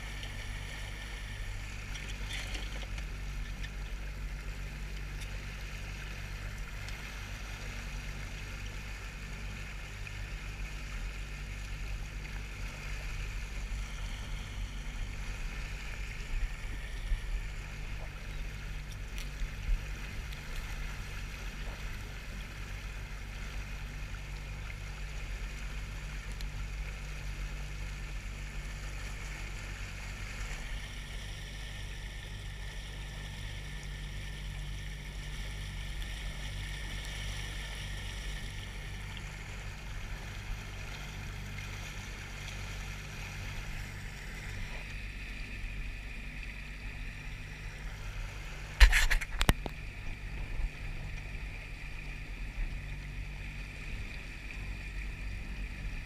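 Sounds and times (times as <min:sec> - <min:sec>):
outboard motor humming: 0:00.0 - 0:56.0
water washing along hull: 0:00.0 - 0:56.0.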